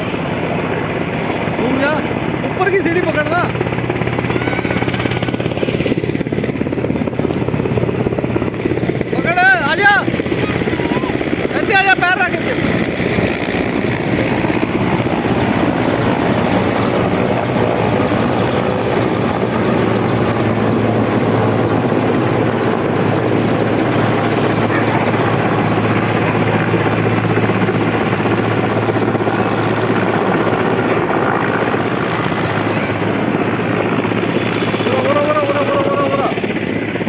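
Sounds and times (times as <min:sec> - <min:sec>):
helicopter rotors and turbine: 0:00.0 - 0:37.0.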